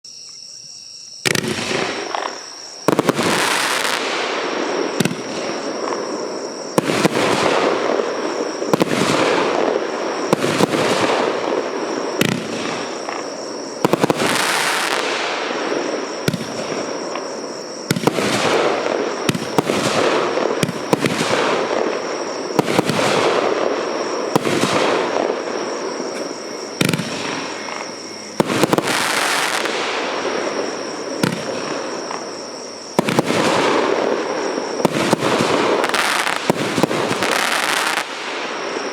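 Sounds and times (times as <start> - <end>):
firework shots bursting: 1.2 - 6.2, 6.8 - 32.4, 33.0 - 38.8.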